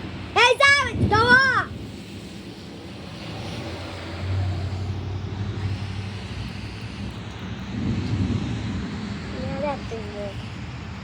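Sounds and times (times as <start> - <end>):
low rumble: 0.0 - 11.0
steady hiss: 1.7 - 11.0.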